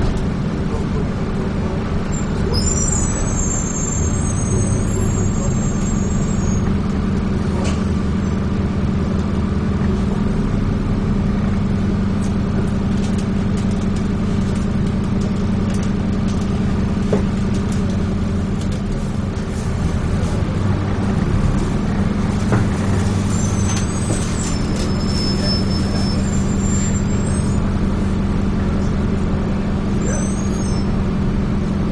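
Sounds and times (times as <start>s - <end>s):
bus engine droning: 0.0s - 31.9s.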